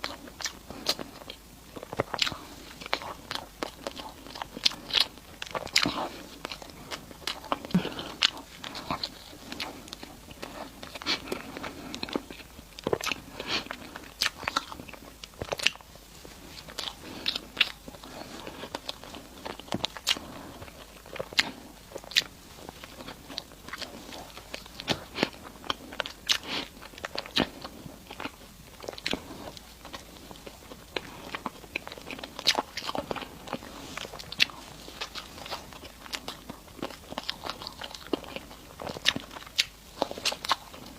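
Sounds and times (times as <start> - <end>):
person chewing sweets: 0.0 - 40.9.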